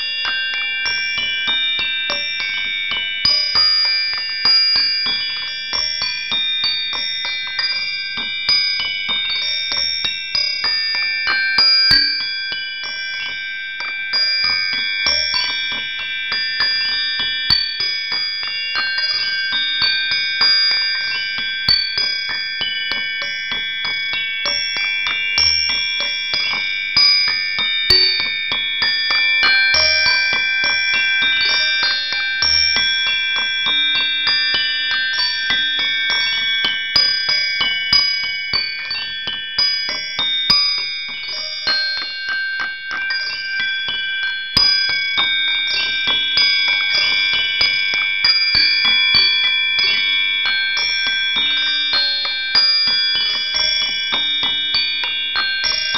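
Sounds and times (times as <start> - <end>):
bell-like chimes: 0.0 - 55.9.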